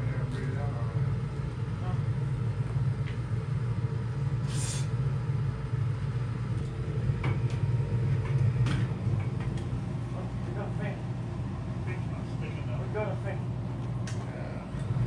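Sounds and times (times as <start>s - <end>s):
furnace burner and blower rumbling: 0.0s - 15.0s.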